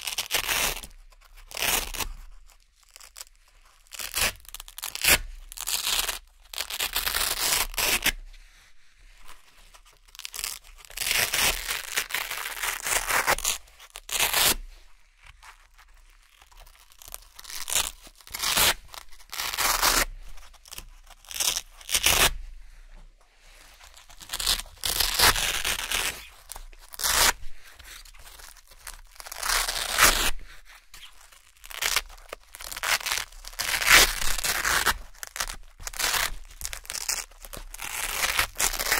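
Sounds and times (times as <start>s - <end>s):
velcro ripping: 0.0s - 3.3s, 3.9s - 8.2s, 10.0s - 14.7s, 15.4s - 22.4s, 23.7s - 38.9s.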